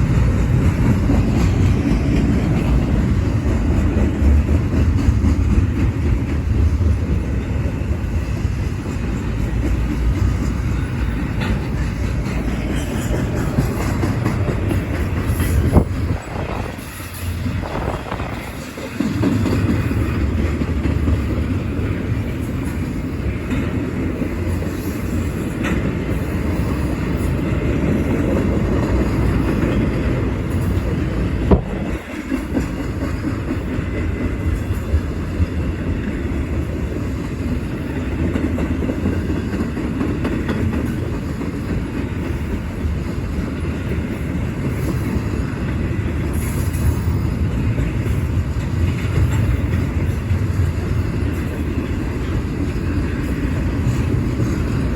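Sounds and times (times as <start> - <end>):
train running and slowing: 0.0 - 54.9.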